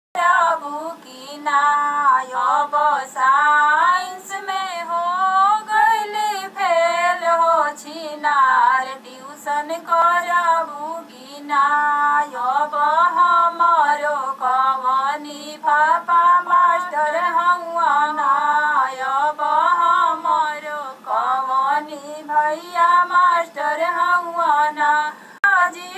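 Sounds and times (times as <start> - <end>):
woman singing folk song: 0.2 - 25.9.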